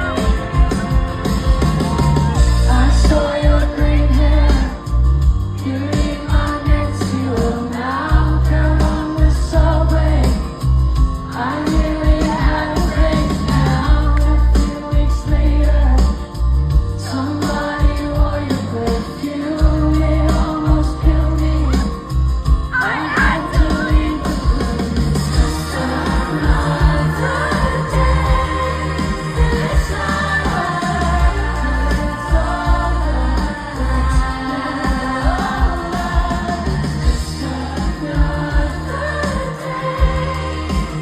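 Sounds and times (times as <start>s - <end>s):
live band with pulsing bass: 0.0s - 41.0s
woman singing lead vocal: 0.0s - 41.0s.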